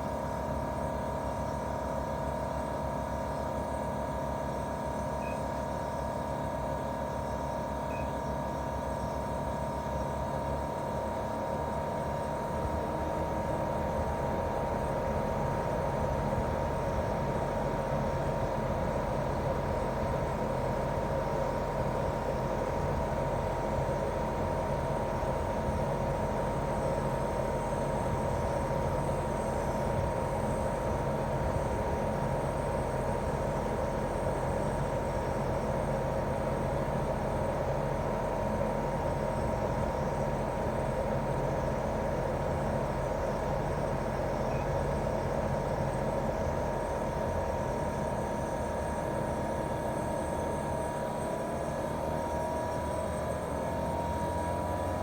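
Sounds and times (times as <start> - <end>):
compressor whine: 0.0 - 55.0.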